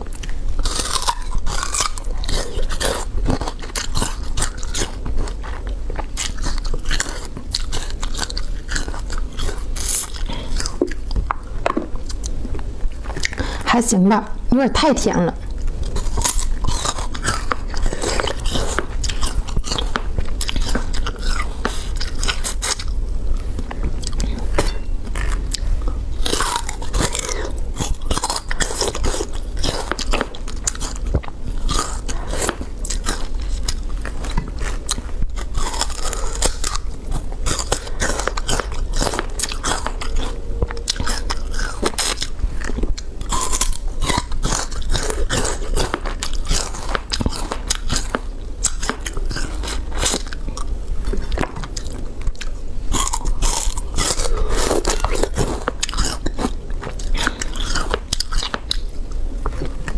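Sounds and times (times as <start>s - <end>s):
crunching and chewing sugarcane: 0.0s - 13.7s, 15.4s - 59.9s.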